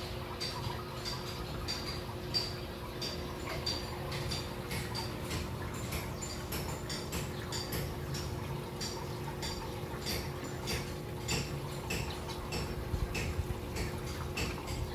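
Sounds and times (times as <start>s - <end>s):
aquarium equipment humming: 0.0s - 14.9s
water dripping and ticking: 0.0s - 14.9s.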